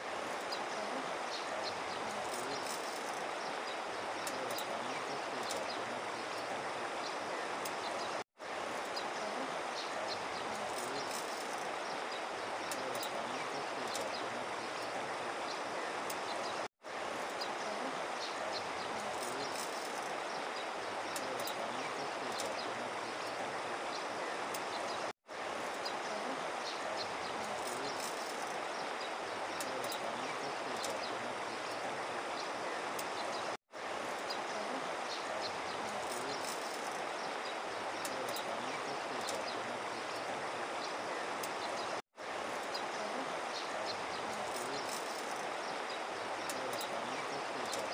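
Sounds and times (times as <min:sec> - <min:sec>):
river water rushing over gravel: 0:00.0 - 0:47.9.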